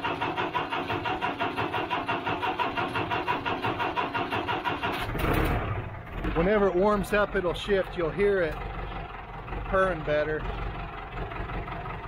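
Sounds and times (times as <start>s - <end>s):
crane engine idling: 0.0s - 12.0s.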